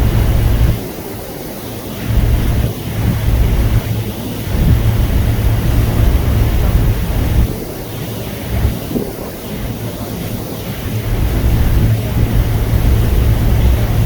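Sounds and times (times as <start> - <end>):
steady hiss: 0.0 - 14.0
wind buffeting microphone: 0.0 - 14.0.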